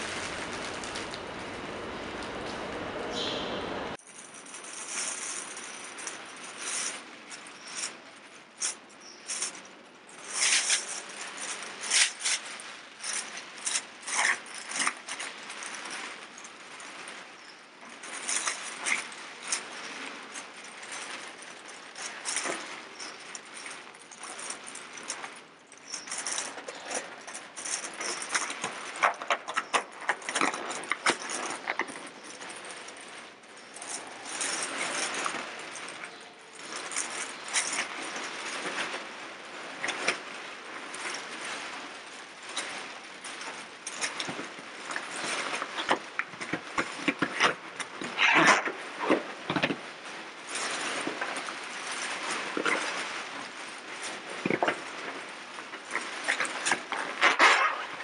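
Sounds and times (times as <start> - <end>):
plastic bags crinkling: 0.0 - 3.0, 3.9 - 58.0.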